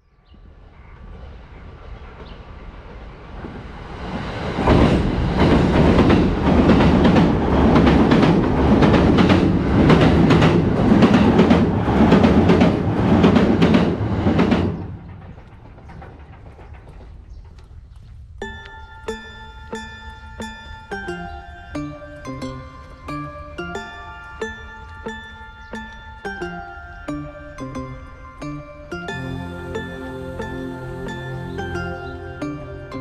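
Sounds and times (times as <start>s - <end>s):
wheels clickety-clack on rail joints: 0.2s - 33.0s
electric train rumbling over bridge: 0.3s - 33.0s.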